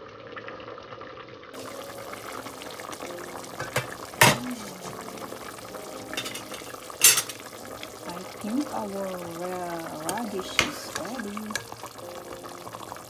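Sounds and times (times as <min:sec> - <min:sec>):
soup bubbling at a boil: 0:00.0 - 0:13.0.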